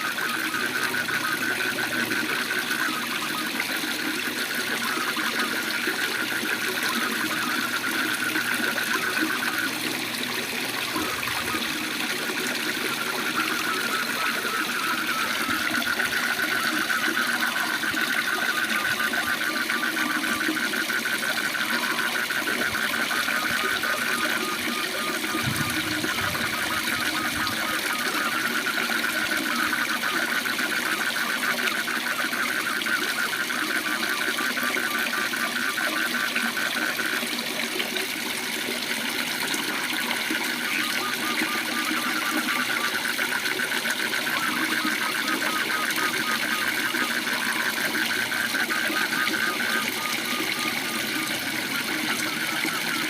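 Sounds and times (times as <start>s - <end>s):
frog chorus trilling: 0.0s - 53.0s
waterfall running: 0.0s - 53.0s.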